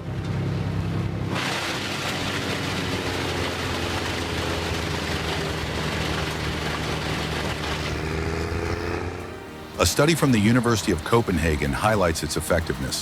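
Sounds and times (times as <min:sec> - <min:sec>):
wood chipper engine running: 0:00.0 - 0:13.0
rushing noise of chipping: 0:01.3 - 0:13.0.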